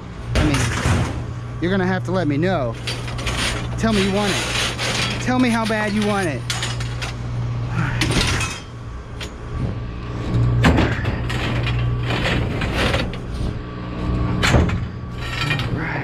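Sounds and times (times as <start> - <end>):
steady low hum: 0.0 - 16.0
scrap metal clattering and scraping: 0.3 - 16.0.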